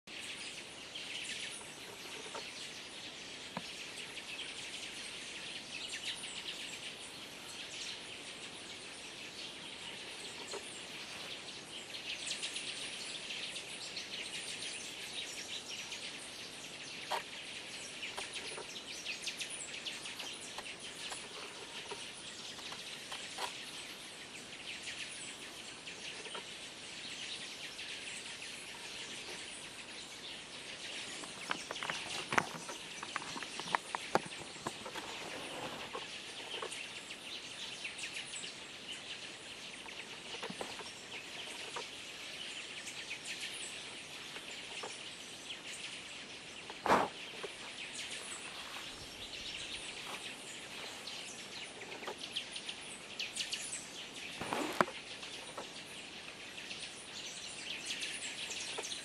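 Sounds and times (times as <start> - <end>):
many small birds twittering: 0.0 - 59.0.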